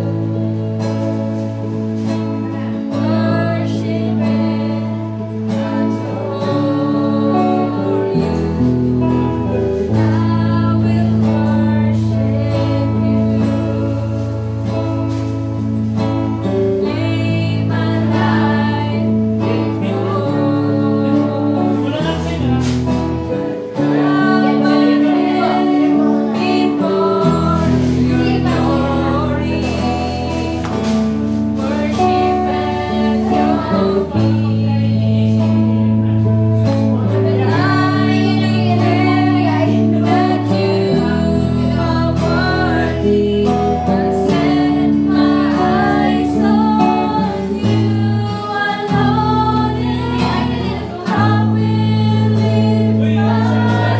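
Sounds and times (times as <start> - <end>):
acoustic guitar: 0.0 - 53.9
electric guitar: 0.0 - 53.9
keyboard: 0.0 - 53.9
women singing: 0.0 - 53.9.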